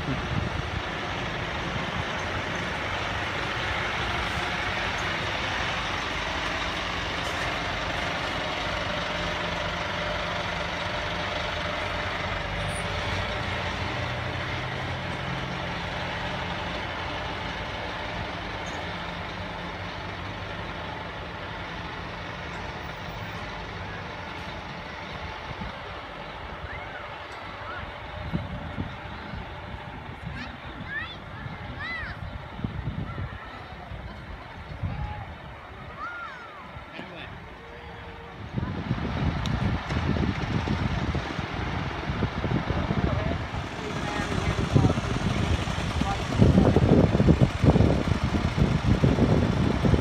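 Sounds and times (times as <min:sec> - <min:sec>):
diesel truck engine passing: 0:00.0 - 0:50.0.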